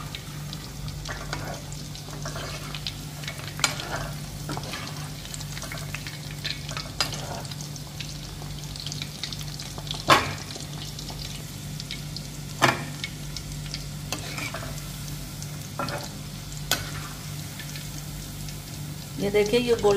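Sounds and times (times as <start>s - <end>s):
food deep-frying in oil: 0.0s - 19.9s.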